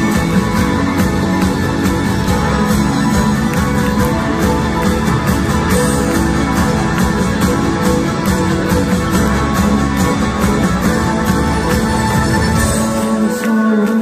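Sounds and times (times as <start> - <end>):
electric guitar: 0.0 - 14.0.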